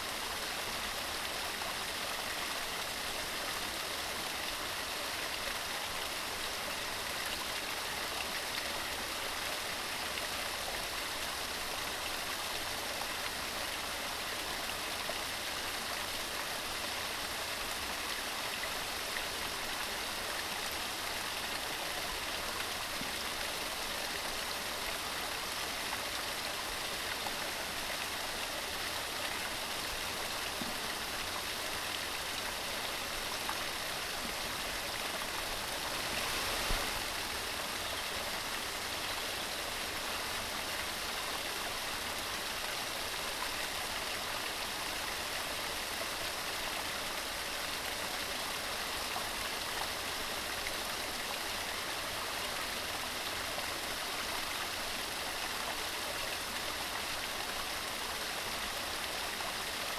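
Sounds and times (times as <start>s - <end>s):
stream rushing over rocks: 10.9s - 59.9s.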